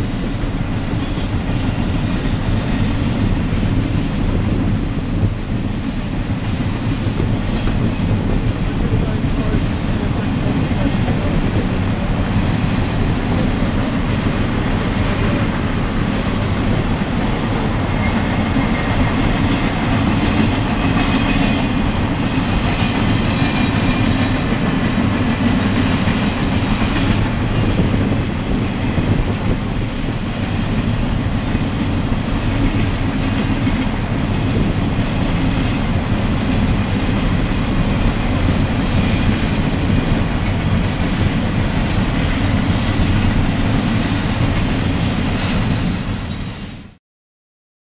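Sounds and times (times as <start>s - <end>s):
train wheels clicking over rail joints: 0.0s - 47.0s.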